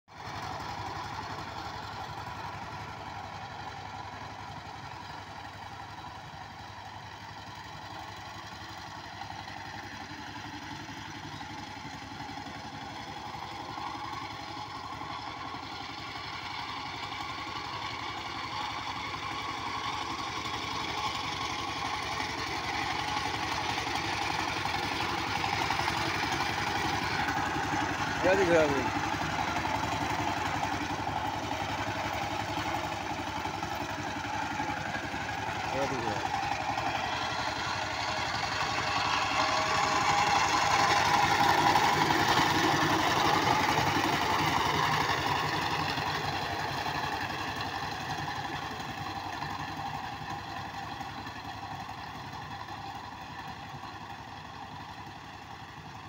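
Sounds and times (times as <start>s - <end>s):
power tiller engine running: 0.1s - 56.0s.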